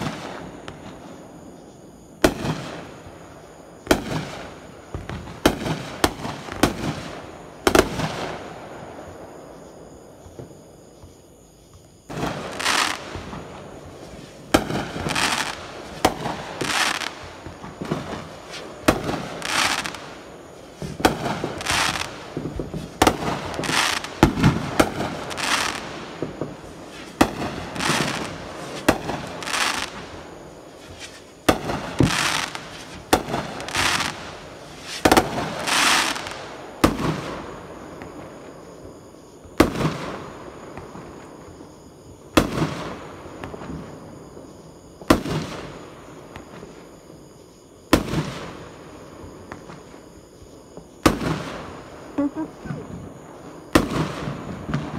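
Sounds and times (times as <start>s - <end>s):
fireworks bangs: 0.0s - 47.0s, 47.9s - 54.9s
hissing crackle of fireworks: 0.0s - 54.9s.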